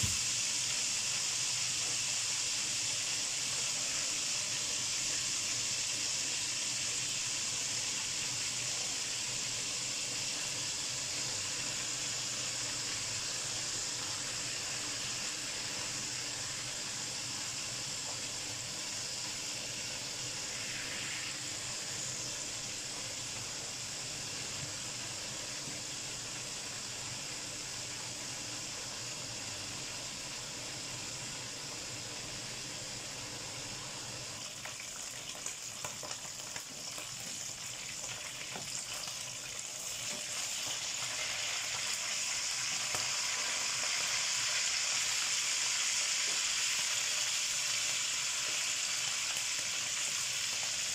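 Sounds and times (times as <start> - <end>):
fish sizzling in oil: 0.0 - 50.9.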